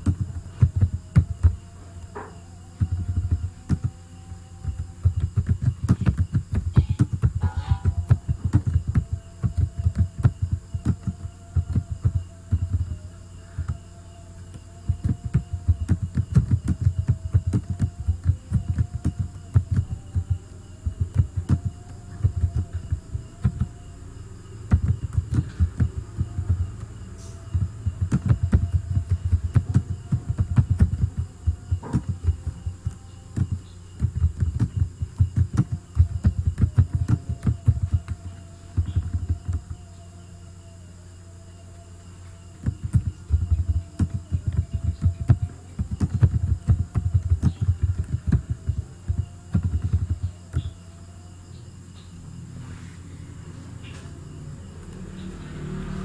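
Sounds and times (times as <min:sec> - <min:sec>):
faint wavering hum: 0:00.0 - 0:56.0.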